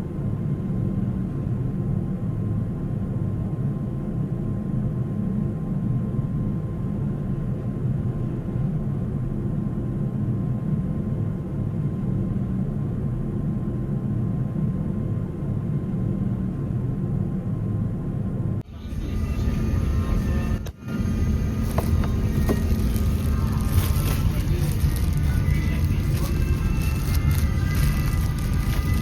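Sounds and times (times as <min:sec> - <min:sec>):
airliner rumble: 0:00.0 - 0:29.0
faint steady whine: 0:00.0 - 0:29.0.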